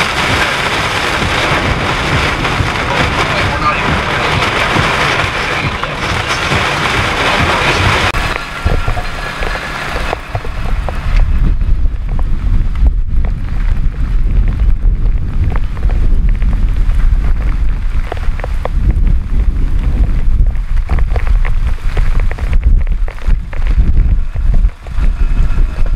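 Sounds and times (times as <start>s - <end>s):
heavy rain pouring: 0.0s - 25.9s
raindrops tapping: 0.0s - 25.9s
wind gusts buffeting microphone: 0.0s - 25.9s.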